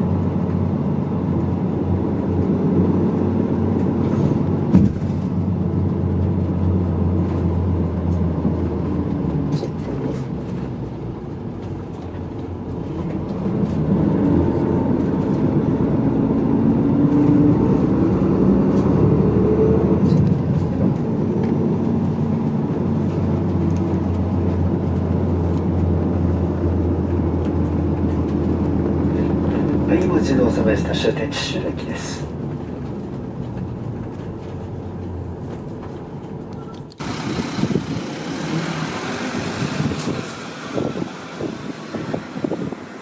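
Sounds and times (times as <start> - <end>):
bus engine and road noise: 0.0 - 43.0.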